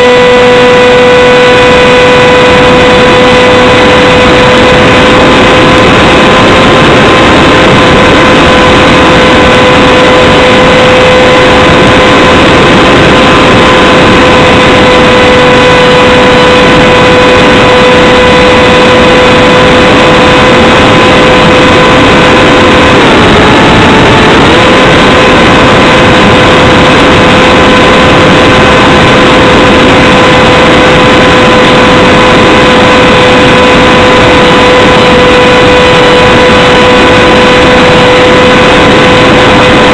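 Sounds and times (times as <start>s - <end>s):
electric motor and propeller whine: 0.0s - 39.9s
wind rush: 0.0s - 39.9s.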